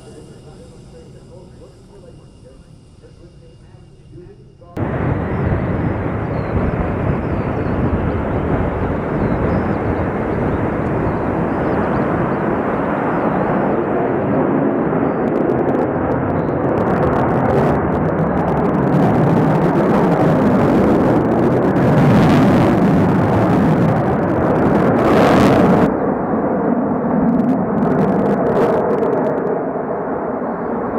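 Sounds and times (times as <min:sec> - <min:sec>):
fighter jet engines rushing: 0:00.0 - 0:30.9.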